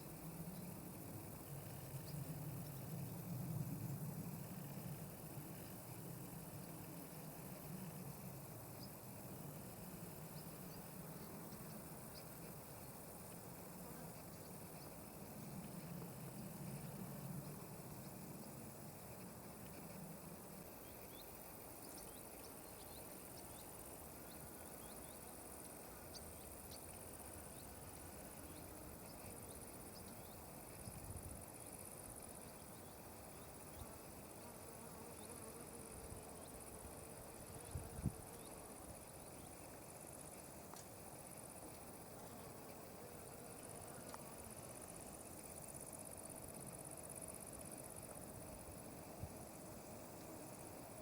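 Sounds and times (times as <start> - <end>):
insects chirring: 0.0 - 51.0.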